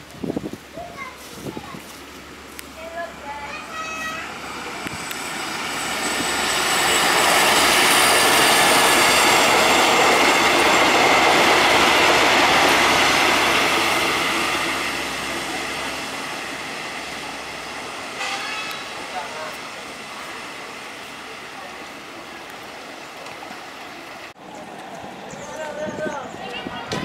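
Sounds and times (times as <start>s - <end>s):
train passing on rails: 0.0s - 27.0s.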